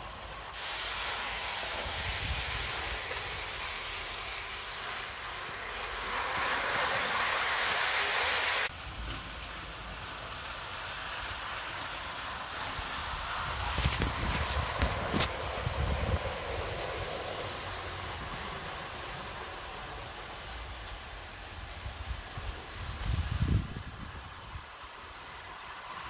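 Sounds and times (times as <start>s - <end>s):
low wind rumble: 0.0s - 9.0s, 9.8s - 26.0s
steam locomotive hissing: 0.0s - 26.0s
model locomotive clicking on track: 0.1s - 23.2s.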